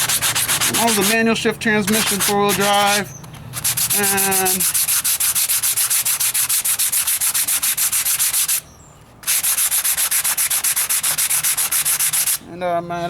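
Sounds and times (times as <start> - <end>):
sandpaper rubbing filler: 0.0 - 8.6, 9.2 - 12.4.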